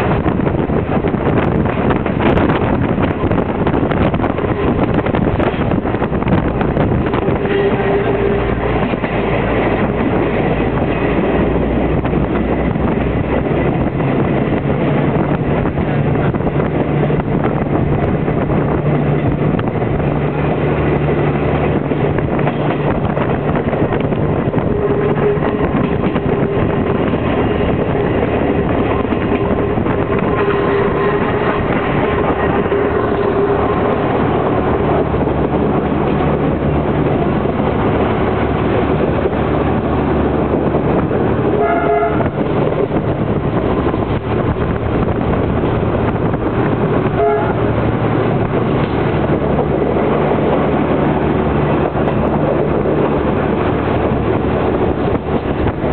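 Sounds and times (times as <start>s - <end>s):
diesel railcar engine: 0.0s - 55.9s
wheel and rail noise: 0.0s - 55.9s.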